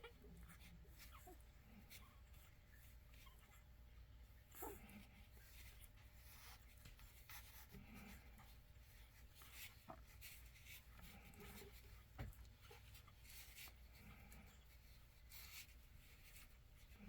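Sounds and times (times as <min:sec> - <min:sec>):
puppies rustling and scratching: 0:00.0 - 0:17.0.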